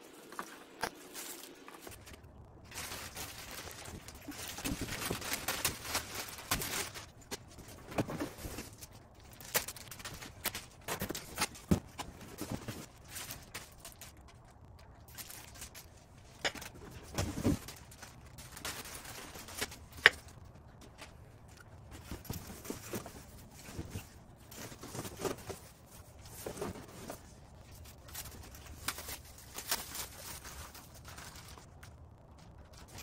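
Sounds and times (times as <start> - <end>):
rustling plastic wrapping and cardboard: 0.0 - 33.0.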